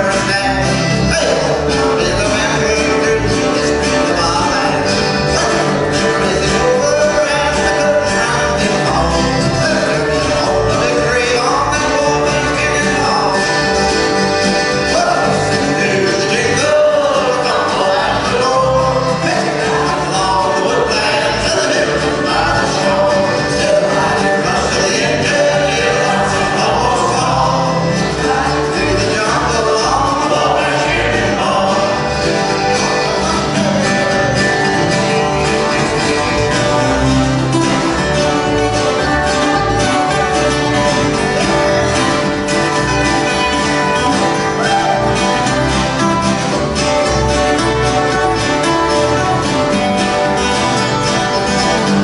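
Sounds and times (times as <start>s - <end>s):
acoustic guitars strumming and picking: 0.0s - 52.0s.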